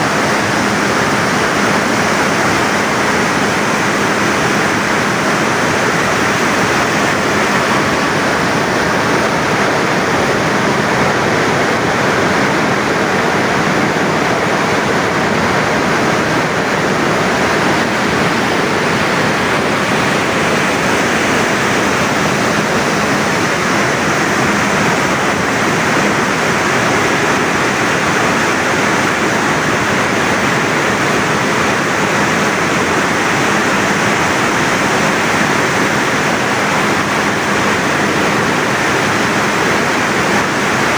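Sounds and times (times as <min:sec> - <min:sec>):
rushing falling water: 0:00.0 - 0:40.9.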